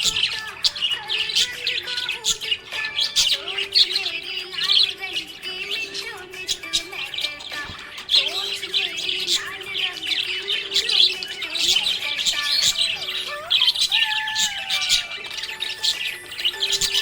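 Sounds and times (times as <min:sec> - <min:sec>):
budgerigar squawks: 0:00.0 - 0:17.0
budgerigars chirping and warbling: 0:00.0 - 0:17.0.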